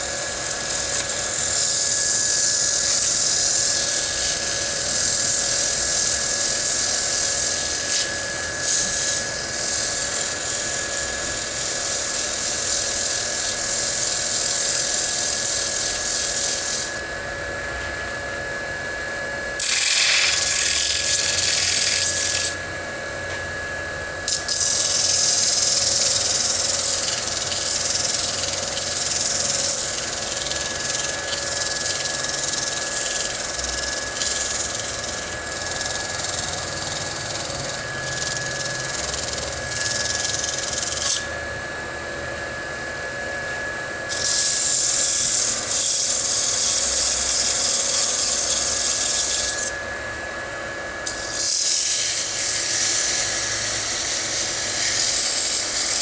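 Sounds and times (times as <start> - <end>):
sandpaper rubbing spinning wood: 0.0 - 17.0, 19.6 - 22.6, 24.3 - 41.3, 44.1 - 49.7, 51.1 - 56.0
wood lathe motor whine: 0.0 - 56.0.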